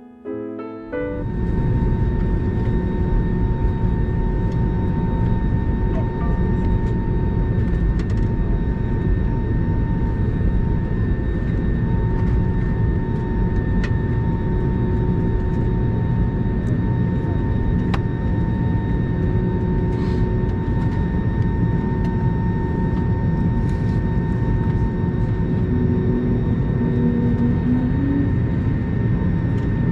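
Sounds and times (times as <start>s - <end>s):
airplane cabin rumble: 1.0s - 29.9s.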